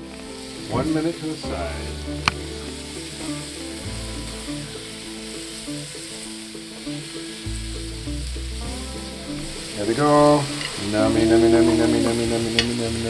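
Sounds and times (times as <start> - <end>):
background music with bass line: 0.0 - 13.0
meat sizzling on a grill: 0.0 - 13.0.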